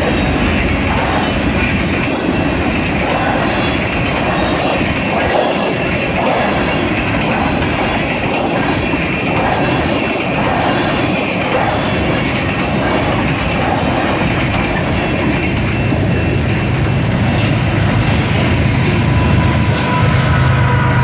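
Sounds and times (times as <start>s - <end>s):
train wheels rumbling and clacking: 0.0s - 21.0s.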